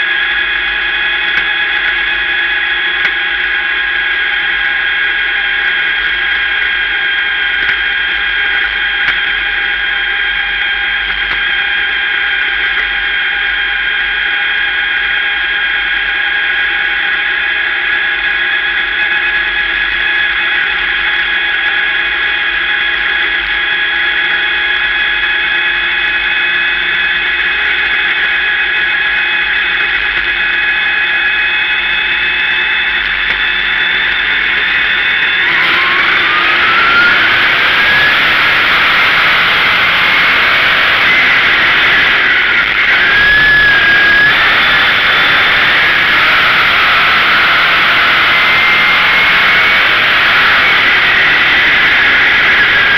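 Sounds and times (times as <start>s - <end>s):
race car engine whine and rumble: 0.0s - 52.9s.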